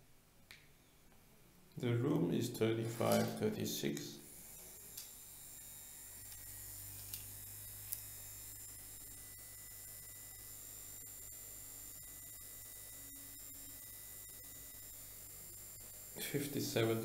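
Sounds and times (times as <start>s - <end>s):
electric fan buzzing hum: 0.0s - 17.0s.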